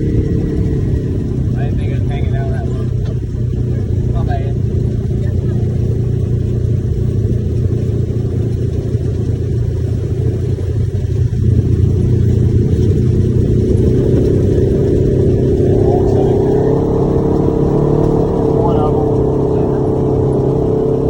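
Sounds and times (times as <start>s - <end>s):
utility vehicle engine running: 0.0s - 21.0s.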